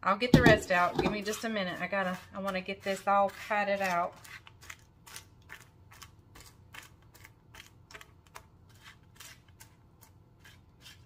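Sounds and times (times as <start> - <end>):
metal spoon scraping on sheet pan: 0.7 - 11.0.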